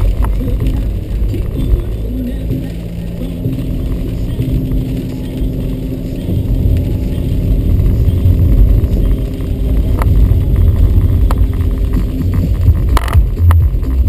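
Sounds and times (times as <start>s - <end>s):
car engine rumble: 0.0s - 14.0s
tyres on wet road: 0.0s - 14.0s.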